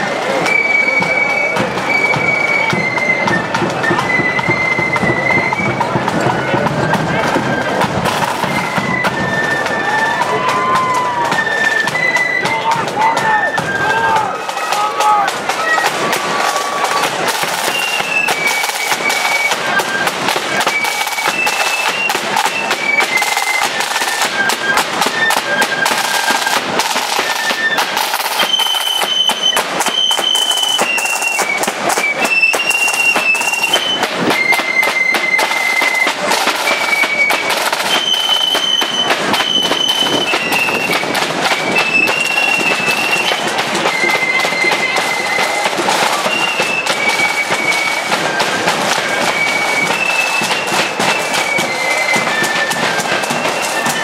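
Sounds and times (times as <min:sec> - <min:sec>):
flutes playing high tune: 0:00.0 - 0:54.0
snare drums rattling: 0:00.0 - 0:54.0.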